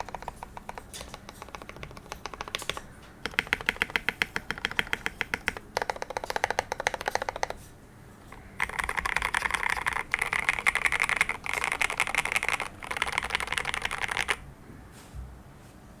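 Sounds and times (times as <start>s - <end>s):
mechanical keyboard typing: 0.0s - 7.6s, 8.3s - 14.4s.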